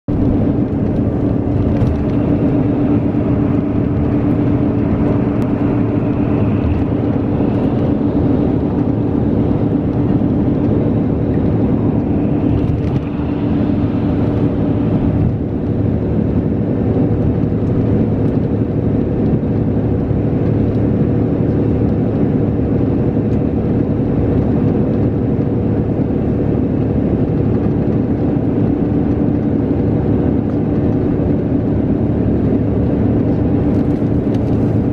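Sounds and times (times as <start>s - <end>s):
coach engine hum: 0.1s - 34.9s
tyre and road noise: 0.1s - 34.9s.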